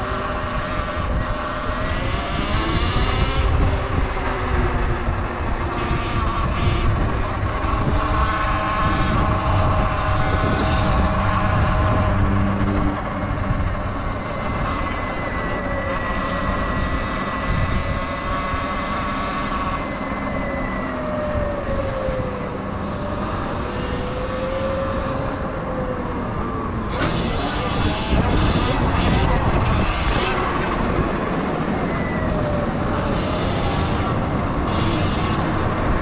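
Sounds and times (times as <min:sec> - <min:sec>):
electric motor whine: 0:00.0 - 0:36.0
wind noise: 0:00.0 - 0:36.0.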